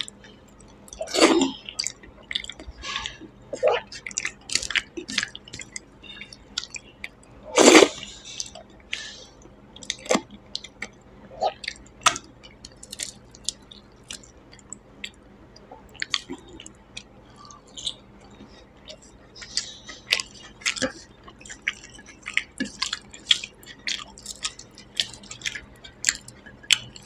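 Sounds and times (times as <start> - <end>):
wet chewing and lip-smacking: 0.0 - 27.0.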